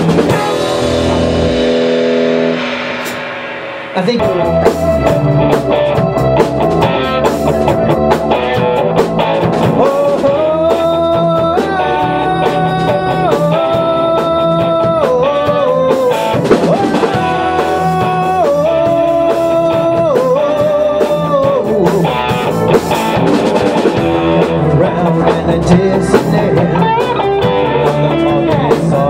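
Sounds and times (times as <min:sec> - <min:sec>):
bass guitar: 0:00.0 - 0:29.0
drum kit: 0:00.0 - 0:29.0
electric guitar: 0:00.0 - 0:29.0
electric keyboard: 0:00.0 - 0:29.0.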